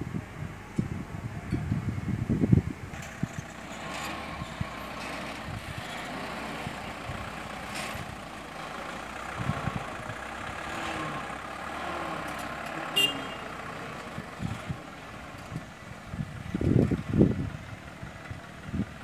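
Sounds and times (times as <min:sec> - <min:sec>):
diesel truck engine pulling away: 0:02.1 - 0:19.0.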